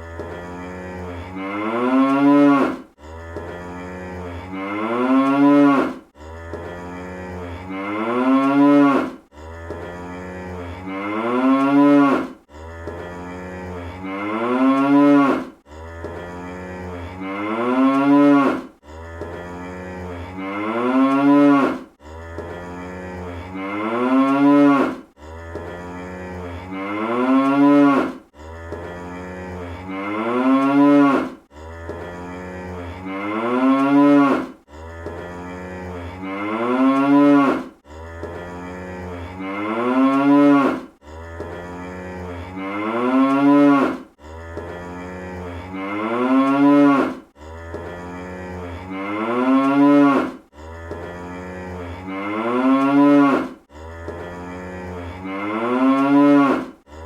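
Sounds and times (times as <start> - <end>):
cartoon cow mooing: 0.0 - 57.0.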